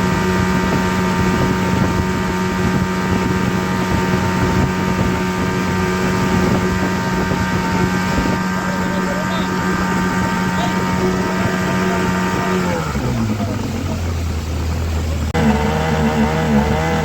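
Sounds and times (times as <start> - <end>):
motor drone: 0.0 - 17.0.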